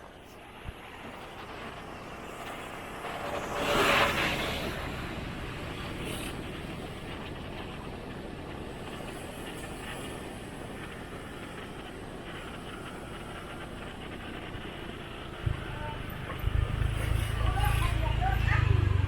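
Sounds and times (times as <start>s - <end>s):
motorcycle engine and road noise: 0.7s - 7.8s, 8.4s - 19.0s.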